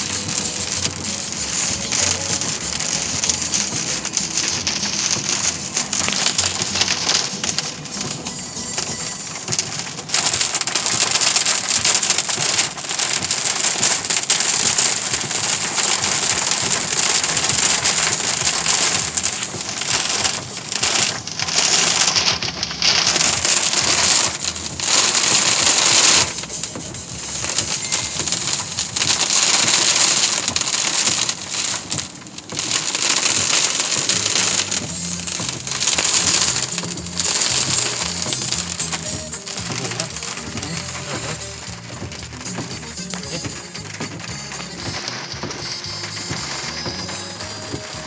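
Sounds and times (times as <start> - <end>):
heavy rain pelting down: 0.0 - 48.0.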